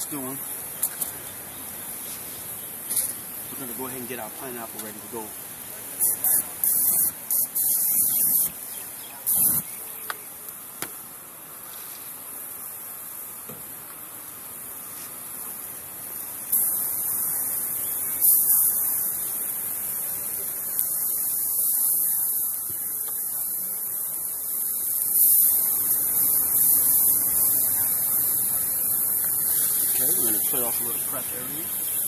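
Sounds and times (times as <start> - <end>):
fruit sizzling on grill: 0.0 - 32.0.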